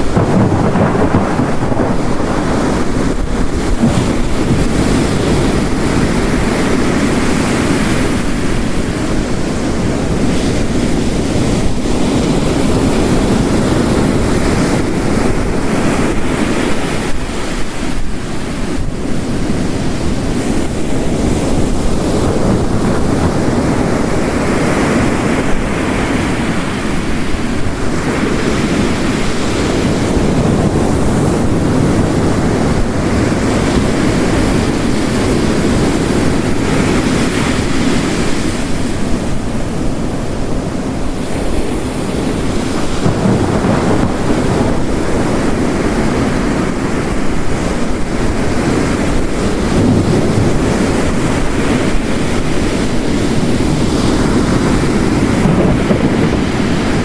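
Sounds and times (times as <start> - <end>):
heavy rain: 0.0 - 57.0
ocean waves crashing: 0.0 - 57.0.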